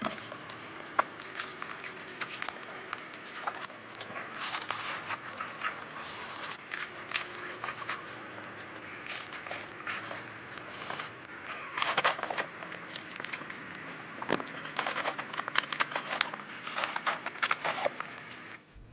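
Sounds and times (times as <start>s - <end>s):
chewing crispy food: 0.0s - 18.6s
crackling clicks: 0.0s - 18.7s.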